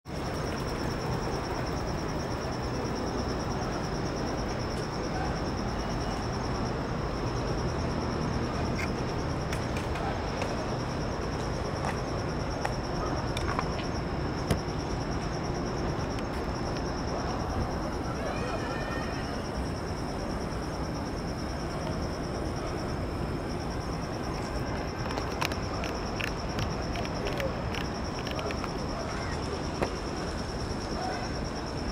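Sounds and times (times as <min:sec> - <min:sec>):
crickets chirping: 0:00.0 - 0:31.9.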